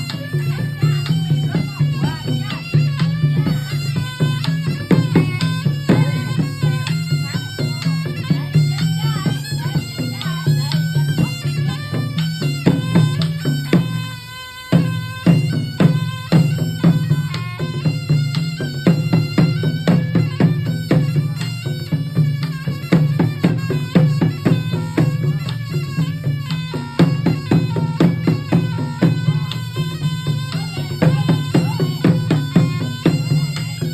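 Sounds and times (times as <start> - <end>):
hand drum strokes: 0.0 - 33.9
shrill shawm melody: 0.0 - 33.9.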